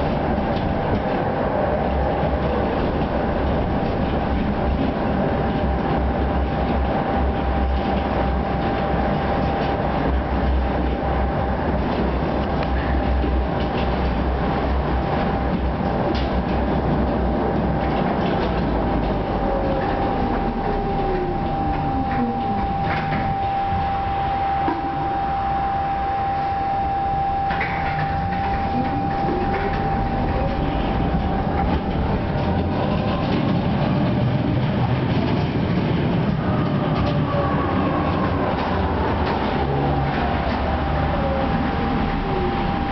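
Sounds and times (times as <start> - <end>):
high electrical hum: 0.0 - 42.9
tram motor whine: 0.0 - 42.9
wheels rumbling on rails: 0.0 - 42.9.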